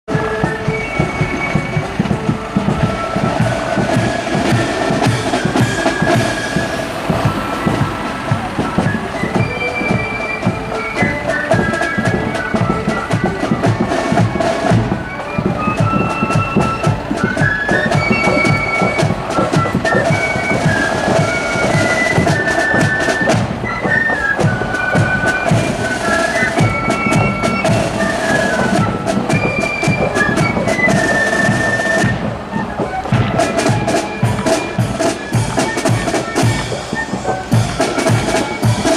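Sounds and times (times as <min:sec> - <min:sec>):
flutes playing high melody: 0:00.1 - 0:38.9
snare drum beats: 0:00.1 - 0:38.9.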